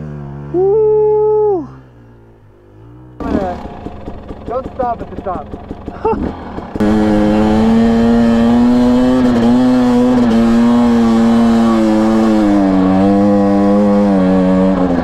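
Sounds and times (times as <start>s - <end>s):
dirt bike engine running hard: 2.7s - 15.0s.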